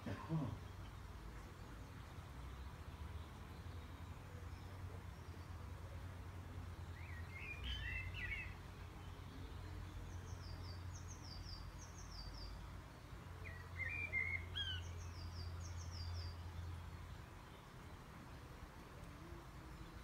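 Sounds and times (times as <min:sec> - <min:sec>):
birds singing: 0:00.0 - 0:20.0.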